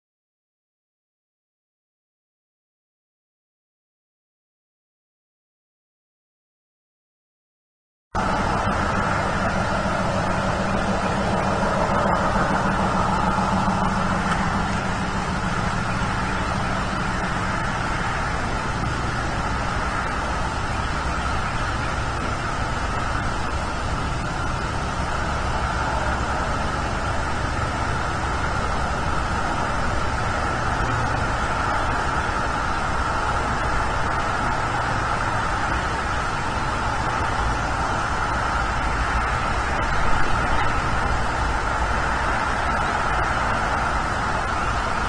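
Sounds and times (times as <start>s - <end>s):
constant hiss: 8.2s - 45.0s
low rumble: 8.2s - 45.0s.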